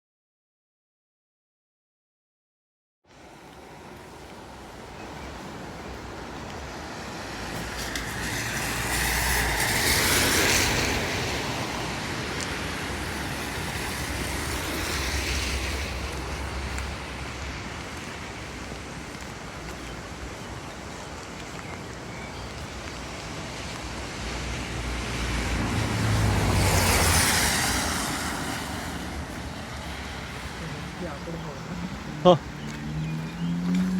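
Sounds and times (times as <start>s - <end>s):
steady road noise: 3.0s - 33.9s
vehicles passing by: 3.1s - 33.9s.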